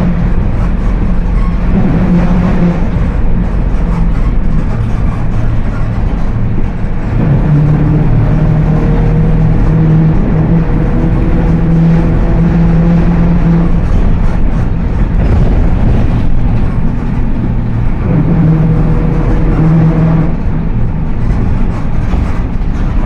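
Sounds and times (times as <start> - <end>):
bus engine running: 0.0 - 23.0
droning differential tone: 0.0 - 23.0.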